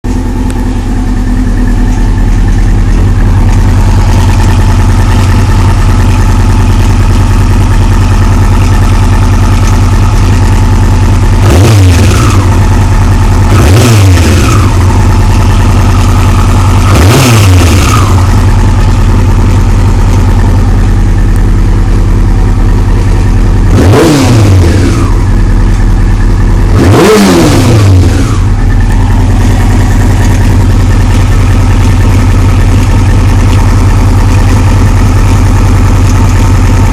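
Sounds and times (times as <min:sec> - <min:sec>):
engine rattle: 0:00.0 - 0:36.9
engine ticking: 0:00.0 - 0:36.9
motorcycle engine idling: 0:00.0 - 0:36.9
throttle revs: 0:02.4 - 0:36.9.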